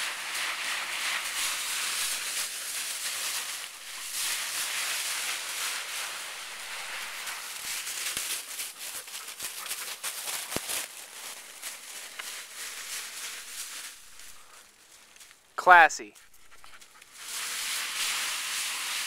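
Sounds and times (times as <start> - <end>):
dog rustling through dry leaves: 0.0 - 15.3, 16.7 - 19.0.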